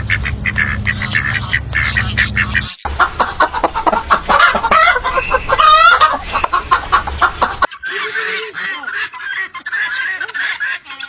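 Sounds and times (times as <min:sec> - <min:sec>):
goose honking: 0:00.0 - 0:08.9
hens clucking: 0:00.0 - 0:11.0.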